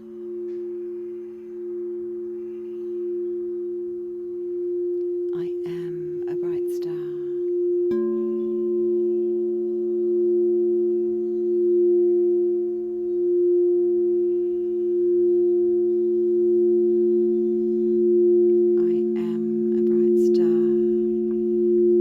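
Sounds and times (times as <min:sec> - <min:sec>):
singing bowl struck: 0:00.0 - 0:05.3, 0:06.0 - 0:22.0
singing bowl steady tone: 0:00.0 - 0:22.0.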